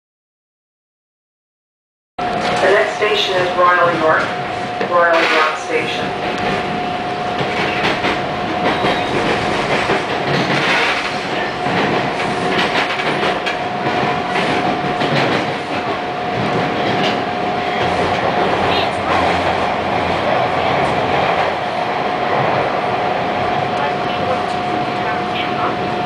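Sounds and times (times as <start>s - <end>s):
steady whine: 2.2s - 26.0s
subway train rumbling in tunnel: 2.2s - 26.0s.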